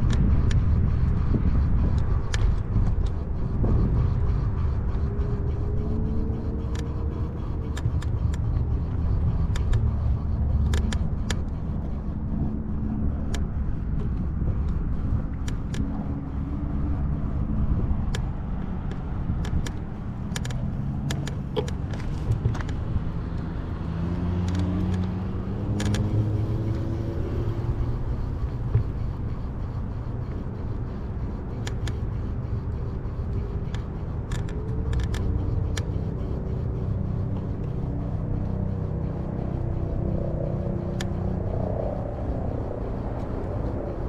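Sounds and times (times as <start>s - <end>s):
sharp clicks: 0.0s - 3.4s, 4.0s - 12.1s, 13.0s - 17.1s, 17.8s - 44.0s
cars passing: 0.0s - 44.0s.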